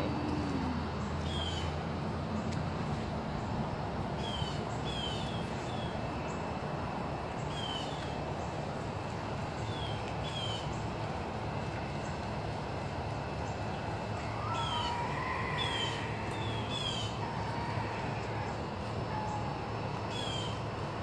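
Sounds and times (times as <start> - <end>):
birds chirping: 0.0 - 1.8, 4.2 - 20.9
outdoor background noise: 0.0 - 21.0.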